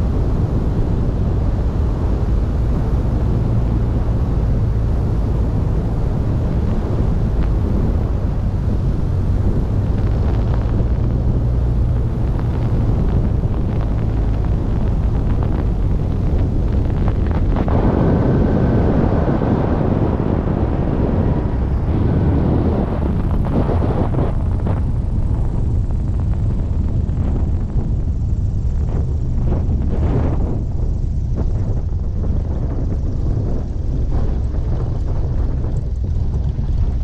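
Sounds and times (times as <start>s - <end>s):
light airplane engine and propeller: 0.0s - 37.0s
rumble of plane touching down: 0.0s - 37.0s
wind on microphone: 0.0s - 37.0s.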